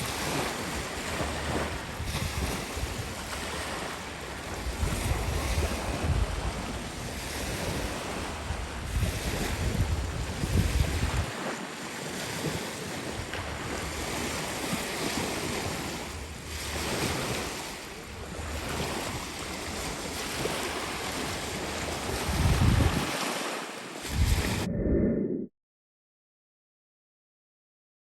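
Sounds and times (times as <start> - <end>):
wind buffeting microphone: 0.0 - 23.2, 24.0 - 25.5
waves washing: 0.0 - 25.5.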